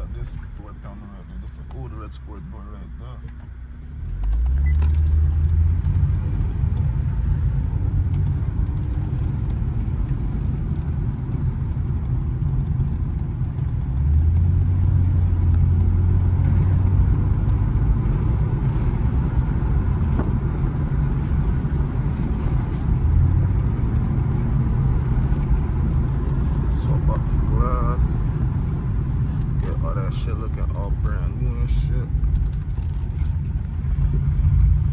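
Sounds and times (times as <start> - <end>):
car engine rumble: 0.0 - 34.9.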